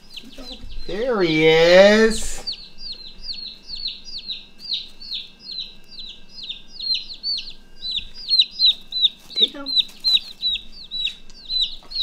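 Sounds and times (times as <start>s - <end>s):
chick peeping: 0.0s - 12.0s.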